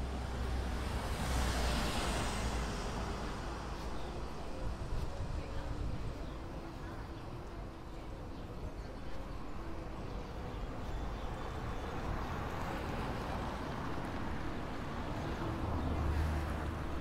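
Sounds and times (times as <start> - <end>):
city traffic noise: 0.0 - 17.0.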